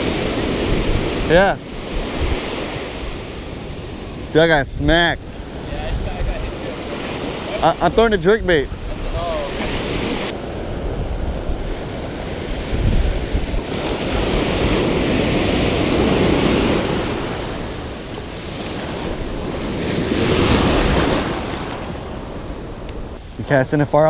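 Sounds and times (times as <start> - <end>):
wind rumbling on microphone: 0.0 - 23.9
ocean surf breaking: 0.0 - 24.0.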